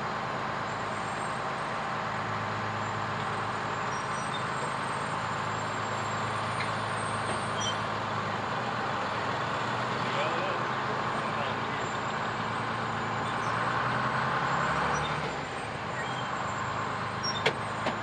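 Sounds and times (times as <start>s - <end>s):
fire truck engine running: 0.0s - 18.0s.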